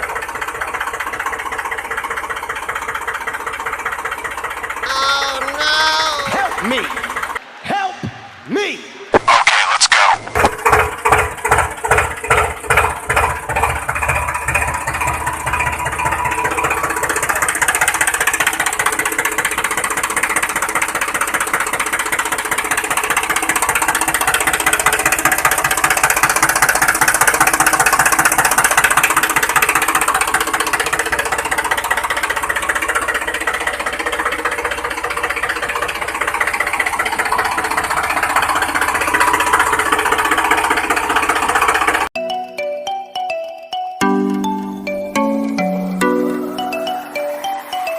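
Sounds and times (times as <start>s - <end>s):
tractor engine chugging: 0.0s - 8.4s, 10.0s - 47.9s.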